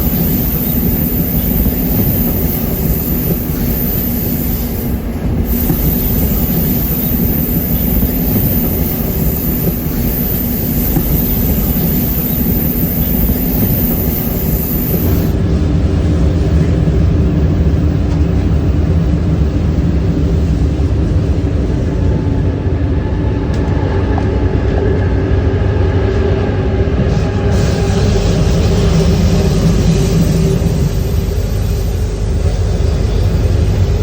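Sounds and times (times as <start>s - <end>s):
steady whine: 0.0s - 24.4s, 27.1s - 34.0s
train wheels rumbling: 0.0s - 34.0s.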